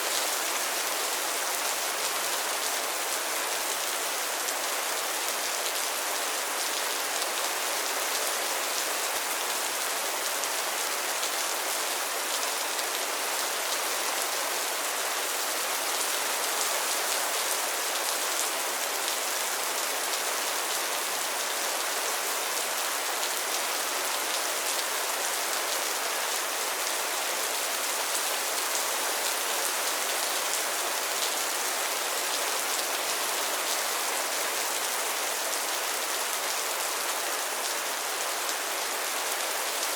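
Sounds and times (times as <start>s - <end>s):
rain falling on a pond: 0.0s - 39.9s.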